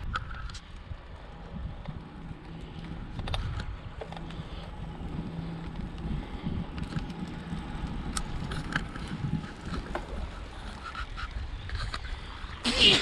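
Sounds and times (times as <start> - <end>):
light clicks and rattles: 0.0 - 12.4
bicycle road noise: 0.0 - 13.0
wind rumbling on microphone: 0.0 - 13.0.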